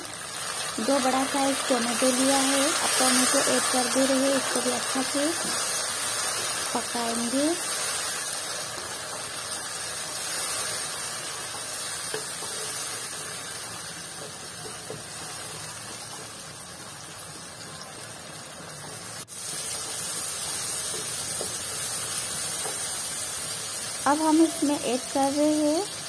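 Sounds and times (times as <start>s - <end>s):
vegetables sizzling in hot oil: 0.0s - 26.0s
spatula stirring in pan: 0.4s - 16.5s, 18.7s - 23.8s.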